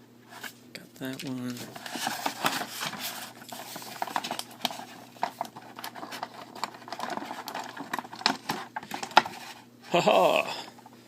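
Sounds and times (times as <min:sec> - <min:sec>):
plastic packaging rustling: 0:00.3 - 0:09.7.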